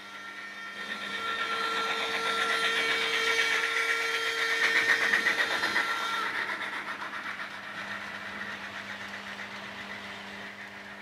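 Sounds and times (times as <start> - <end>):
steady whine: 0.0 - 11.0
model train clattering on track: 0.8 - 11.0.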